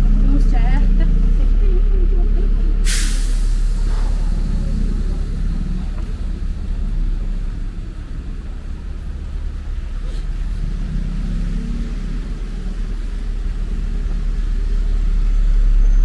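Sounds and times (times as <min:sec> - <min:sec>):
traffic rumble: 0:00.0 - 0:16.0
vehicle approaching: 0:00.0 - 0:16.0.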